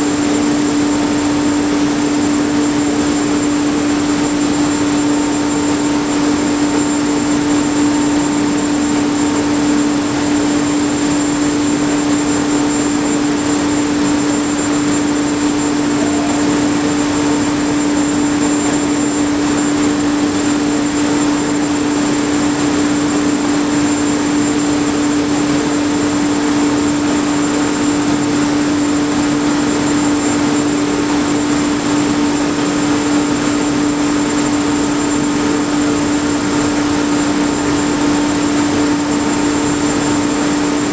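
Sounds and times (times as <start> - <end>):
construction machinery running: 0.0 - 40.9.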